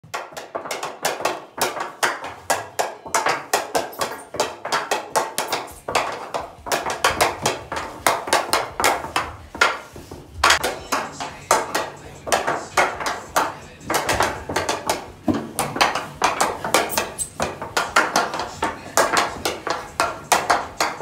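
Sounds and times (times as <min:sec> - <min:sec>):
hockey stick tapping a ball: 0:00.0 - 0:21.0.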